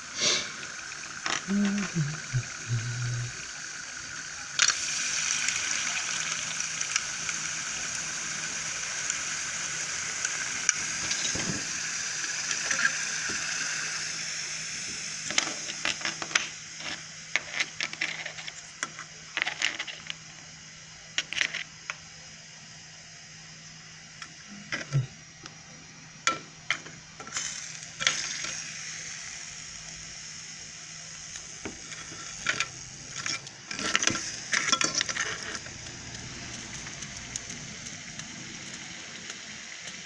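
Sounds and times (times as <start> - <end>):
liquid nitrogen boiling hiss: 0.0 - 40.0.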